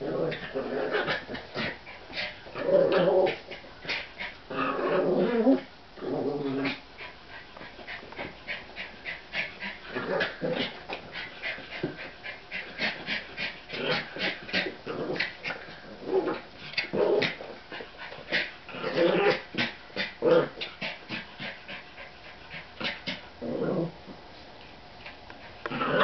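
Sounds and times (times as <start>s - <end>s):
dogs play-growling: 0.0s - 26.0s.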